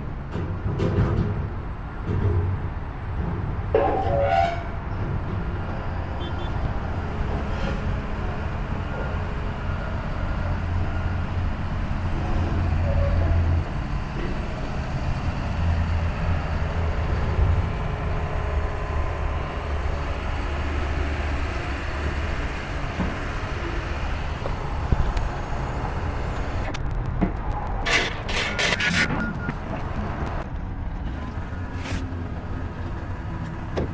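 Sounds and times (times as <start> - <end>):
truck engine and road drone: 0.0 - 33.9.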